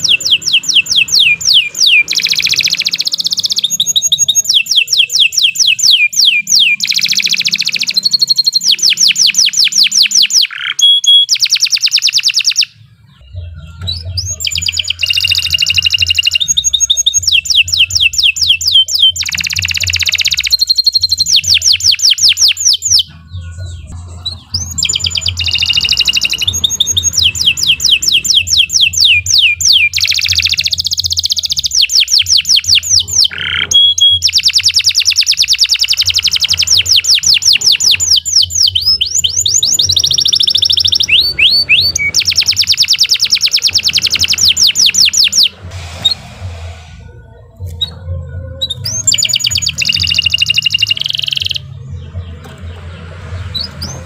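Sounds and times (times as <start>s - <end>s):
canary singing trills: 0.0s - 46.3s, 47.0s - 54.0s.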